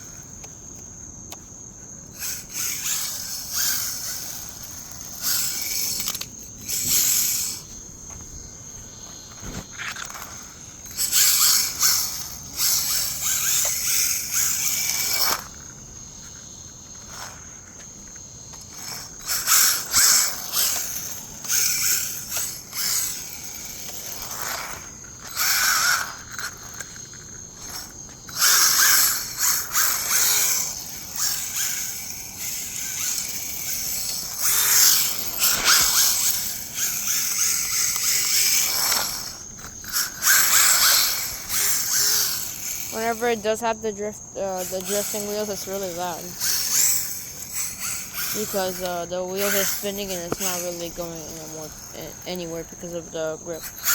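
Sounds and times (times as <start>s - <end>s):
wheels scrubbing on concrete: 2.1s - 53.9s
electric motor whining: 2.2s - 16.3s, 18.5s - 53.9s.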